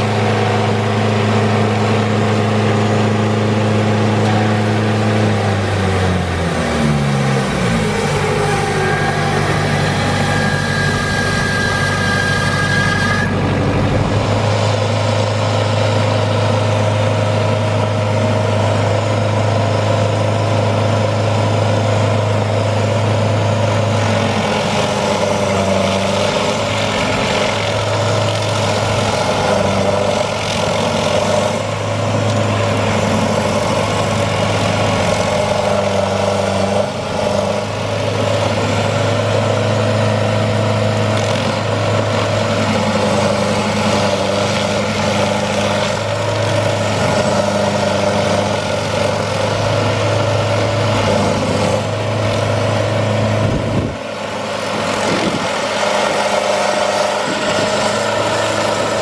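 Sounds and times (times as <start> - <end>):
stump grinder engine running: 0.0 - 59.0
cutter wheel chewing wood: 1.5 - 14.4, 23.7 - 59.0.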